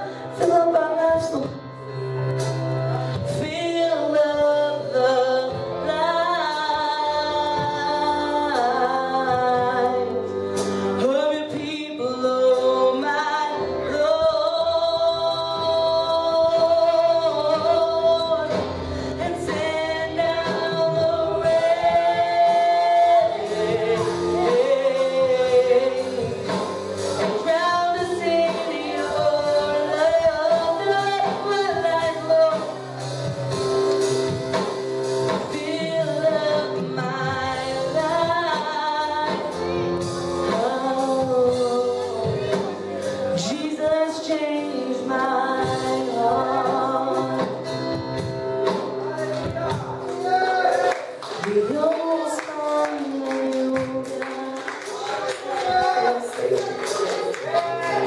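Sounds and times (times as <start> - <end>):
congregation singing worship music: 0.0 - 58.0
instrumental accompaniment: 0.0 - 58.0.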